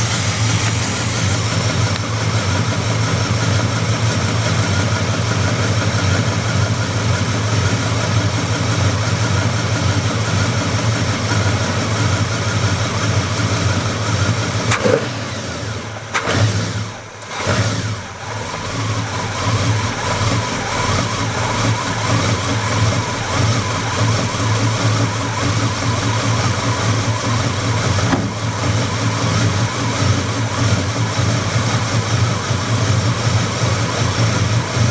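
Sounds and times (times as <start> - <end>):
engine running with knock: 0.0 - 34.9.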